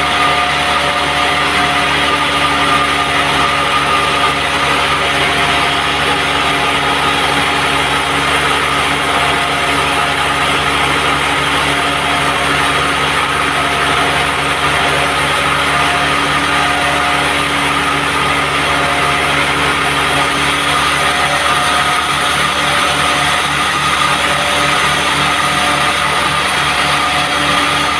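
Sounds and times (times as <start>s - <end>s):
band sawmill running: 0.0s - 27.9s.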